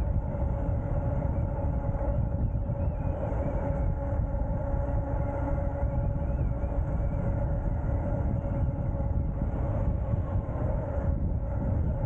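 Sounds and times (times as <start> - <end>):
electric motor whine: 0.0 - 12.0
wind rushing over microphone: 0.0 - 12.0.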